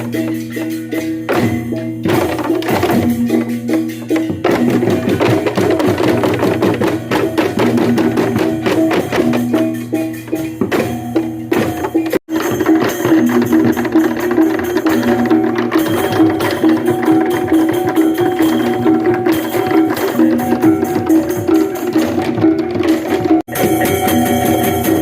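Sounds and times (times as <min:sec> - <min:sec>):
bamboo slit-drums interlocking rhythm: 0:00.0 - 0:25.0.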